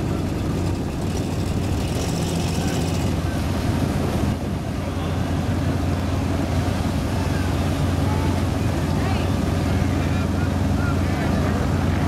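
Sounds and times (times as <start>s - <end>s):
large vehicle engine rumbling: 0.0s - 12.0s.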